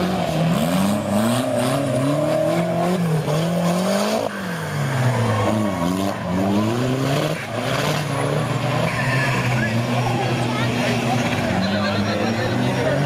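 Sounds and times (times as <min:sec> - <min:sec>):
off-road engines revving: 0:00.0 - 0:13.0.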